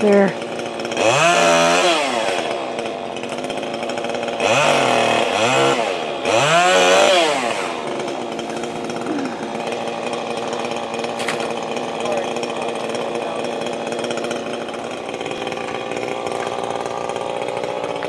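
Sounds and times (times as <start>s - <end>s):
two-stroke chainsaw revving: 0.0s - 18.0s.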